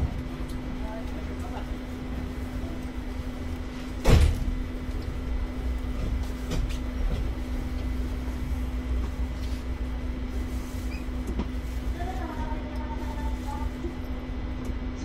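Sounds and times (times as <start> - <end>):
constant hum: 0.0 - 15.0
train rumbling: 0.0 - 15.0.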